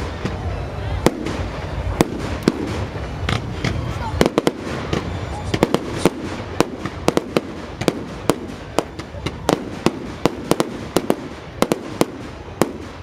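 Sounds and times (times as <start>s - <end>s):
fireworks bangs and cracks: 0.0s - 13.0s
steady background noise: 0.0s - 13.0s.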